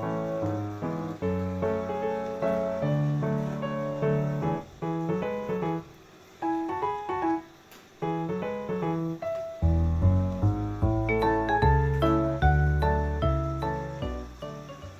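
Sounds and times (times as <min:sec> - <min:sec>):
piano music: 0:00.0 - 0:14.9.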